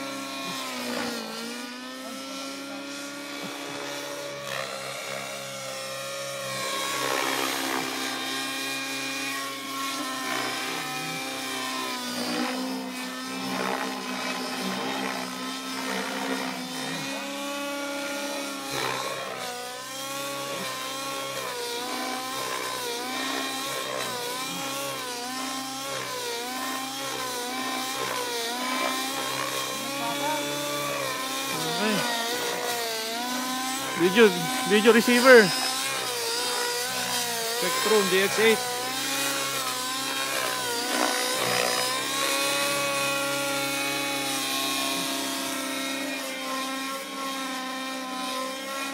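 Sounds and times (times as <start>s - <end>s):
model helicopter engine and rotors: 0.0s - 48.9s.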